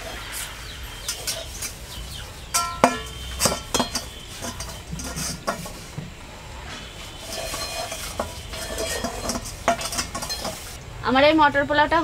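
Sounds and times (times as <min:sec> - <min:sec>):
metal spatula scraping pot: 0:00.9 - 0:10.8.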